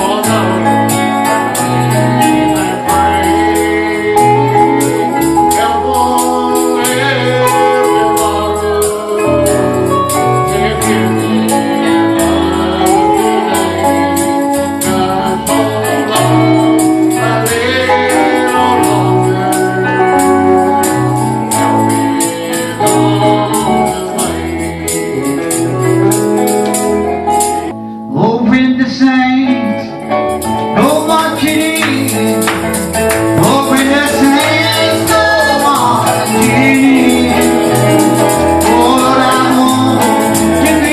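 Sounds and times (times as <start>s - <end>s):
bass line: 0.0s - 40.9s
gospel singing: 0.0s - 40.9s.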